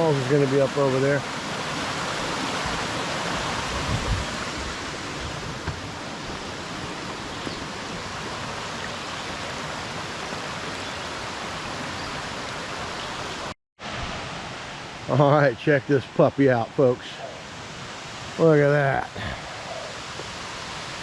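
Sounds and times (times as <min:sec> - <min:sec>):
mountain stream water rushing: 0:00.0 - 0:21.0.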